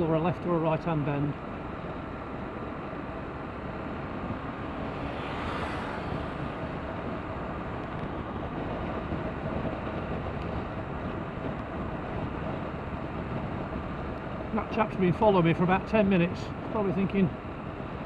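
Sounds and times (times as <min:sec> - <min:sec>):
wind and road rush: 0:00.0 - 0:18.0.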